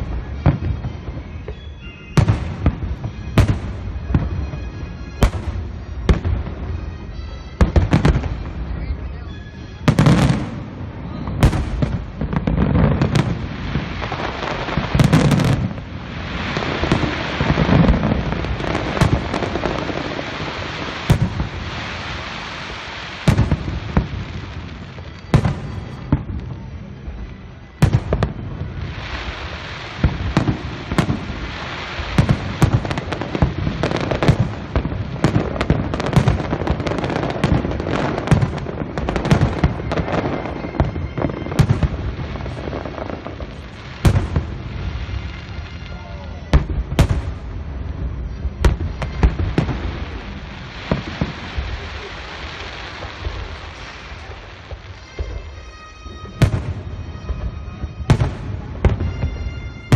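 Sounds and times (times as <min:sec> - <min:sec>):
fireworks bangs and pops: 0:00.0 - 0:59.9.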